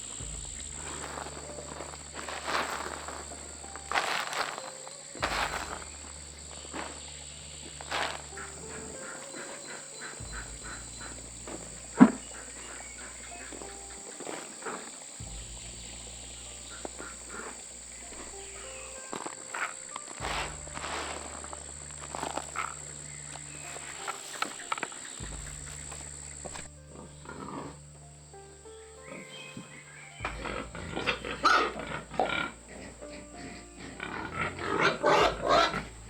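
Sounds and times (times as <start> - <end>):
frogs croaking: 0.0 - 36.0
high-pitched insect drone: 0.0 - 36.0.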